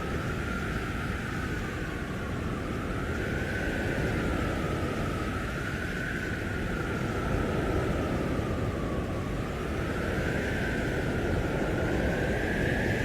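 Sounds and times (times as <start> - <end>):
blizzard wind howling: 0.0 - 13.0.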